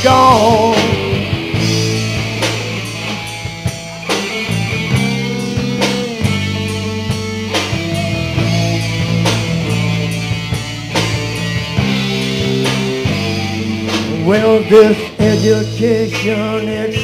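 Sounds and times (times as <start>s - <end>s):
drum kit hits: 0.0s - 17.0s
electric guitars: 0.0s - 17.0s
sustained bass notes: 0.0s - 17.0s.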